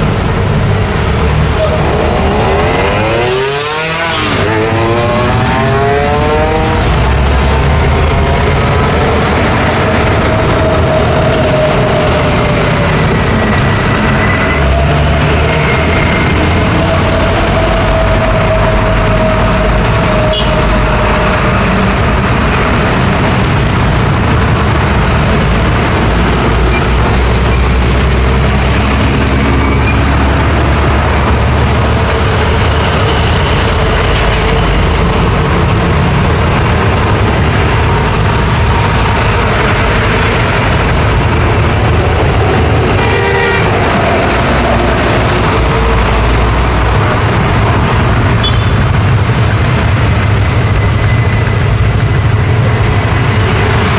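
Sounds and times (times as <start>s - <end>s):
heavy road traffic rumble: 0.0s - 53.9s
motorcycles passing: 0.0s - 53.9s.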